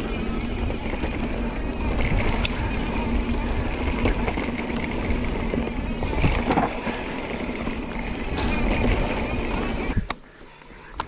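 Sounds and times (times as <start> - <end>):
wind on microphone: 0.0 - 10.2
bike tyres rumbling on dirt: 0.0 - 10.9
bike knocking and rattling: 0.0 - 11.0.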